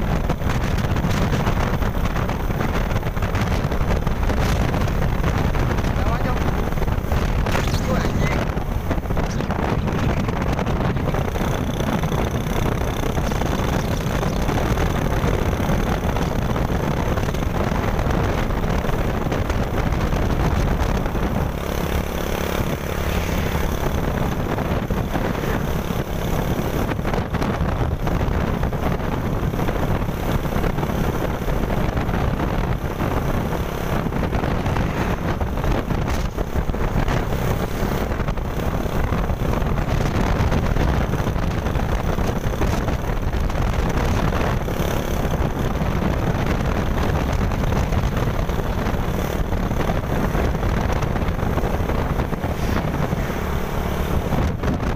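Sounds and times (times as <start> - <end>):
road and engine noise: 0.0 - 54.9
wind rumble on microphone: 0.0 - 54.9.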